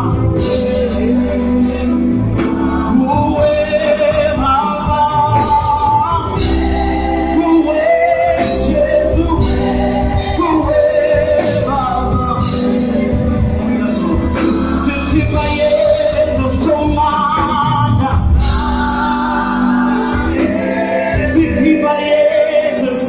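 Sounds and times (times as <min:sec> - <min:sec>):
bass: 0:00.0 - 0:23.0
drums: 0:00.0 - 0:23.0
people singing gospel: 0:00.0 - 0:23.0.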